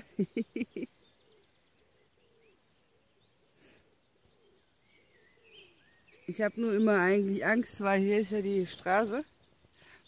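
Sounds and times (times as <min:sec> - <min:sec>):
distant bird calls and chirps: 0:00.0 - 0:10.0.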